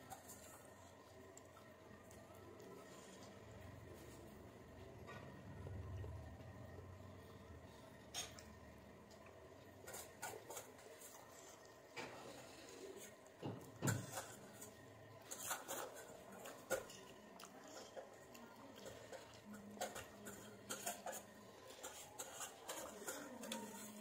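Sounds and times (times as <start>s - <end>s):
chewing and wet mouth sounds: 0.0s - 5.0s, 6.0s - 24.0s.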